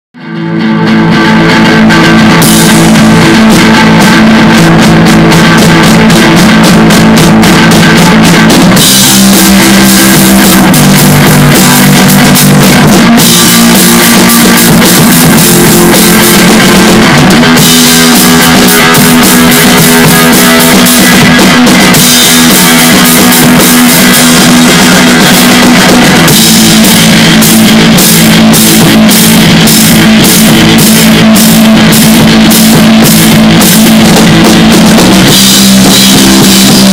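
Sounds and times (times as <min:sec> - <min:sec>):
electric guitar chords: 0:00.0 - 0:36.9
cymbals: 0:00.3 - 0:36.9
drumming: 0:00.9 - 0:36.9.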